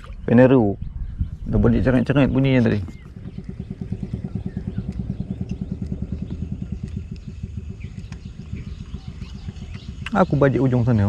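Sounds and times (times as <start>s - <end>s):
small engine puttering: 1.8s - 11.0s.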